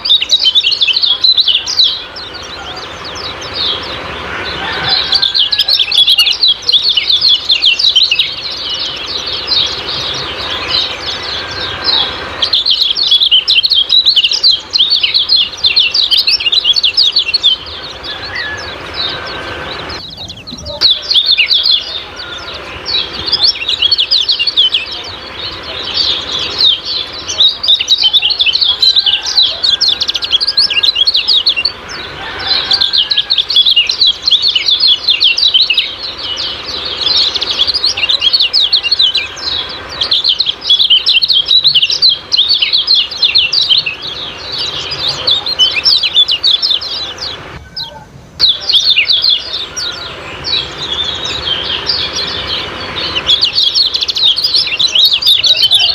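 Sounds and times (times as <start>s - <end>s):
songbird chirping: 0.0s - 55.9s.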